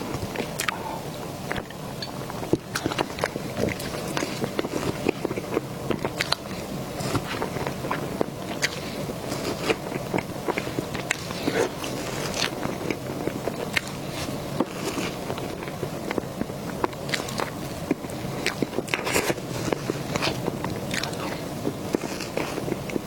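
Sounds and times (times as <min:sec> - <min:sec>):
person chewing: 0:00.0 - 0:23.0.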